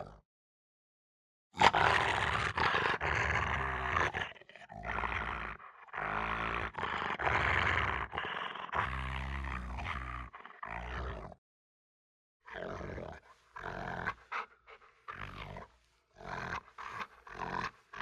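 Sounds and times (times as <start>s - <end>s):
dog growling: 1.6s - 11.4s, 12.5s - 18.0s.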